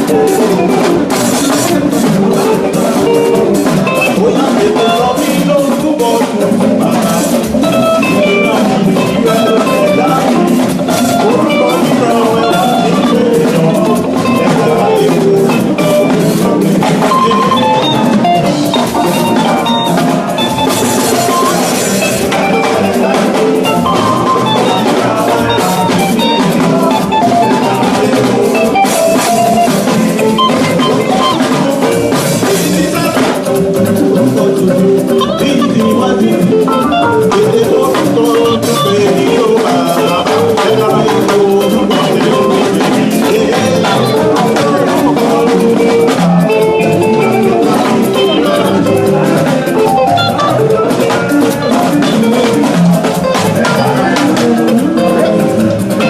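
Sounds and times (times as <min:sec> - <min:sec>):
drum kit beat: 0:00.0 - 0:56.0
instrumental band music: 0:00.0 - 0:56.0.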